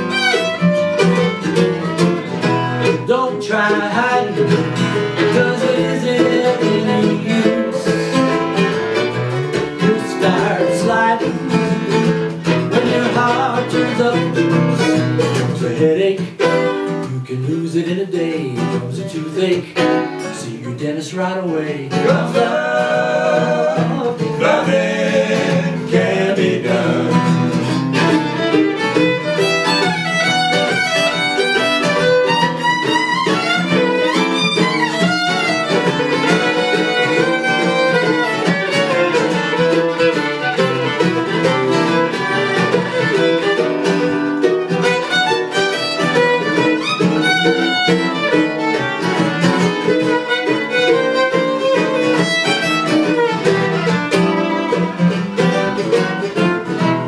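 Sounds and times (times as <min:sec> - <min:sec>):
acoustic guitar: 0:00.0 - 0:57.0
fiddle melody: 0:00.0 - 0:57.0
mandolin: 0:00.0 - 0:57.0.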